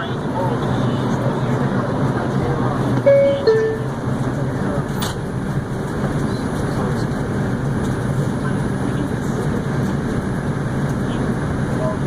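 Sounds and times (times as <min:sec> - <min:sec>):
subway car wheels rumbling on rail: 0:00.0 - 0:12.0.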